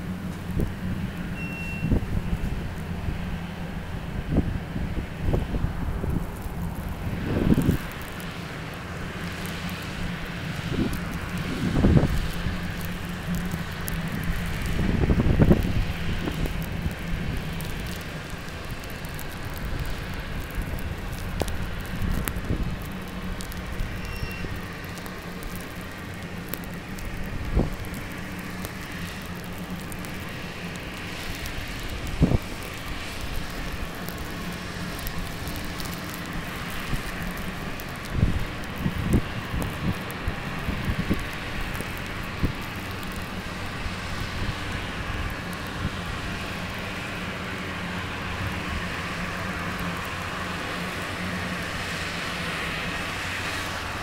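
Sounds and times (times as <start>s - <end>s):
blizzard wind buffeting microphone: 0.0s - 54.0s.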